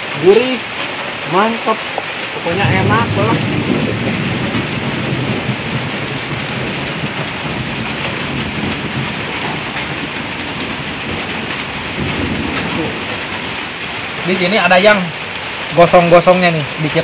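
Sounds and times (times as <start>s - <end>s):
heavy rain on a metal roof: 0.0s - 17.0s.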